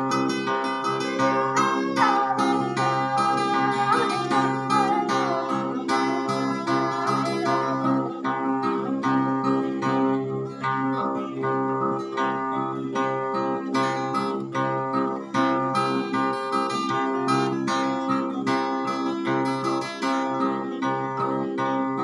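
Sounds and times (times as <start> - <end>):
plucked string instrument music: 0.0 - 22.0.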